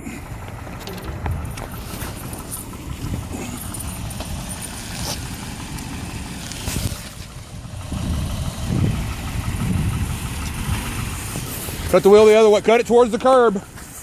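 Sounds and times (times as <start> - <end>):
car running slowly: 0.0 - 14.0
wind buffeting microphone: 0.3 - 12.6.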